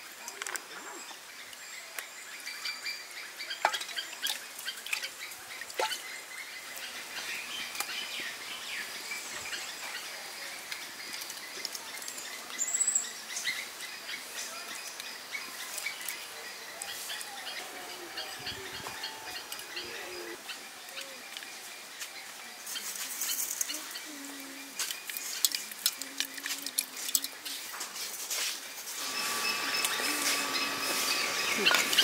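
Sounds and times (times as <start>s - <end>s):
birds chirping: 0.7s - 27.6s, 29.0s - 32.0s.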